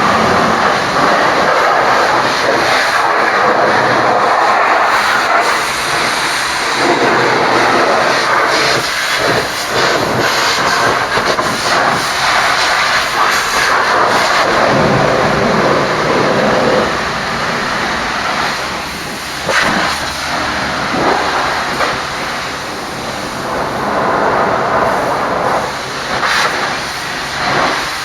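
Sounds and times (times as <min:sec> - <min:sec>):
high-pressure water spray: 0:00.0 - 0:28.0.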